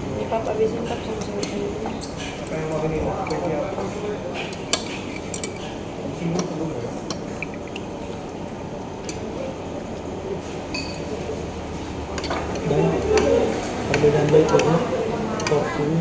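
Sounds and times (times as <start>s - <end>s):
murmur of voices: 0.0s - 7.4s, 9.1s - 16.0s
steady background hum: 0.0s - 16.0s
utensils clinking on plates: 0.4s - 8.4s, 9.0s - 16.0s.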